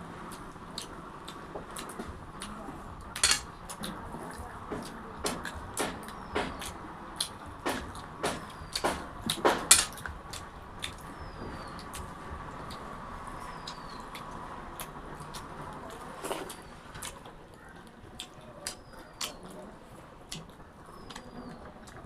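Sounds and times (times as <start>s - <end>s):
chewing fried food: 0.0s - 22.0s.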